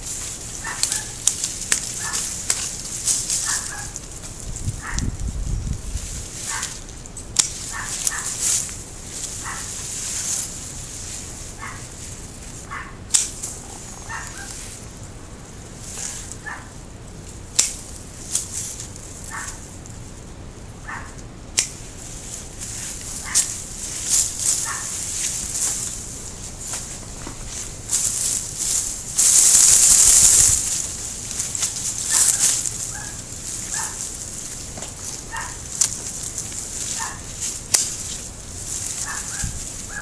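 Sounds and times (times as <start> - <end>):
leaves and twigs rustling: 0.0 - 40.0
pruning shears snipping: 0.1 - 5.1, 6.3 - 10.8, 11.6 - 14.8, 15.9 - 16.6, 17.3 - 19.6, 20.9 - 40.0.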